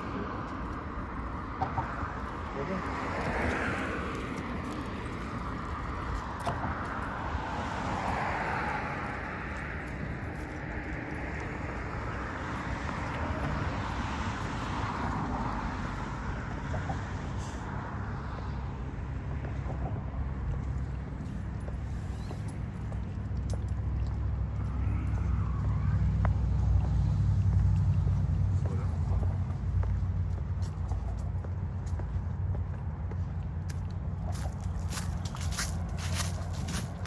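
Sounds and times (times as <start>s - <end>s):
cars passing: 0.0s - 37.0s.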